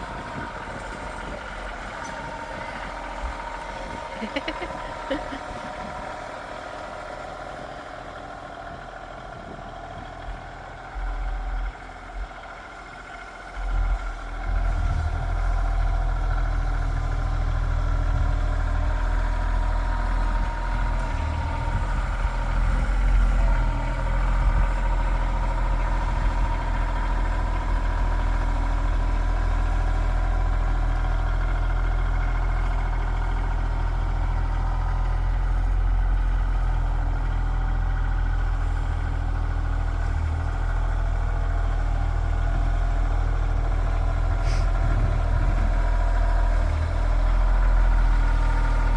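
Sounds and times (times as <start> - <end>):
tractor engine rumbling: 0.0 - 48.9.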